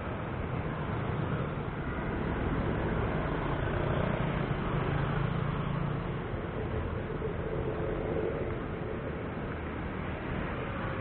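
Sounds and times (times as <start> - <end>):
car engines: 0.0 - 11.0
motorcycle engines: 0.0 - 11.0
road rush: 0.0 - 11.0.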